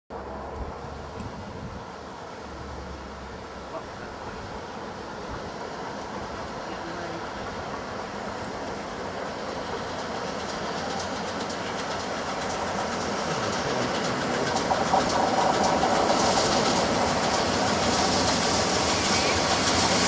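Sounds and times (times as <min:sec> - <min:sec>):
steam train approaching: 0:00.2 - 0:20.0
steam hiss: 0:02.2 - 0:20.0.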